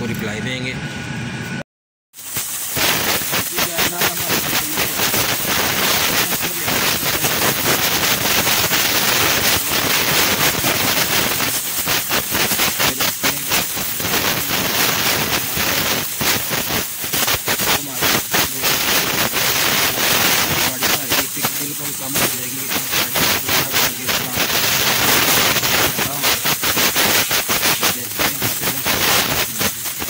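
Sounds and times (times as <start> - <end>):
compressed-air blow gun hissing: 2.2 - 30.0.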